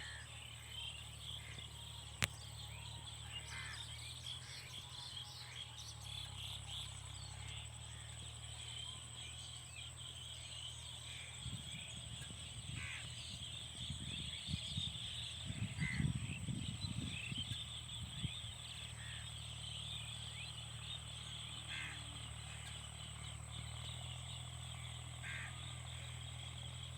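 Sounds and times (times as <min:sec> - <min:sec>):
insects chirping: 0:00.0 - 0:26.9.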